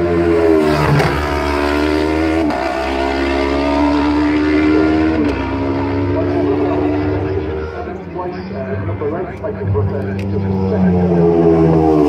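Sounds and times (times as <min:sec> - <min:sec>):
motorbike engine at high revs: 0:00.0 - 0:08.7, 0:09.5 - 0:12.0.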